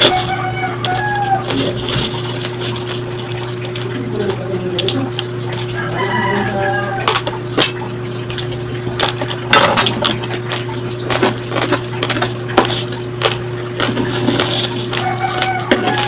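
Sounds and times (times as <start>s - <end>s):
chewing crunchy rice: 0.0s - 6.2s, 6.9s - 16.0s.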